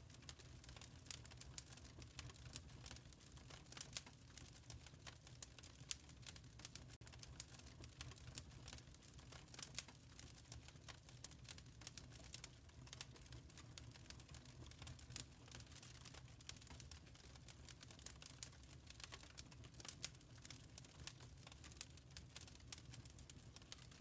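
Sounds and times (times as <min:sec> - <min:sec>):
faint wood fire crackling: 0:00.0 - 0:24.0.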